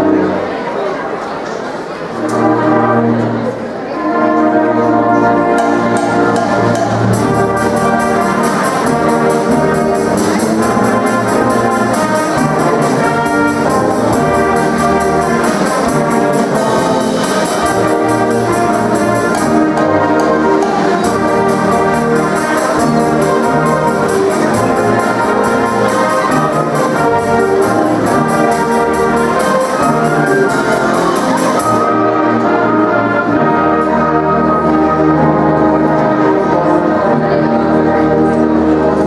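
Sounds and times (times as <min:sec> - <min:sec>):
trombones and trumpets: 0:00.0 - 0:01.2, 0:01.8 - 0:39.0
symphonic band playing: 0:00.0 - 0:39.0.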